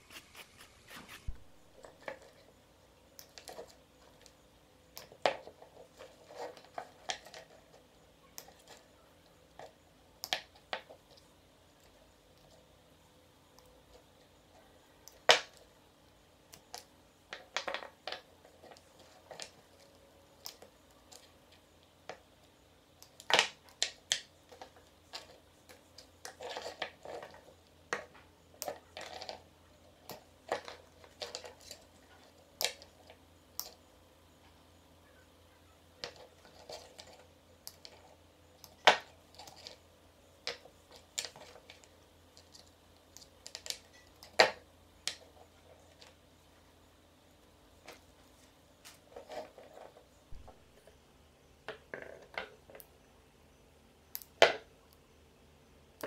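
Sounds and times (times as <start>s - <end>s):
small parts clicking and rustling: 0.0s - 12.8s, 13.5s - 34.6s, 35.9s - 46.7s, 47.4s - 51.0s.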